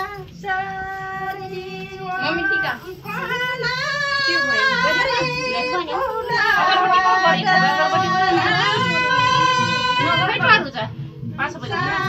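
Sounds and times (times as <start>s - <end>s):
women singing a folk song: 0.0s - 12.0s.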